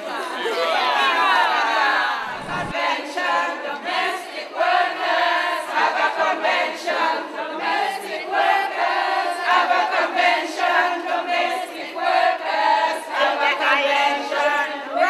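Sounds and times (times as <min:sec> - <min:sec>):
group singing without instruments: 0:00.0 - 0:15.0.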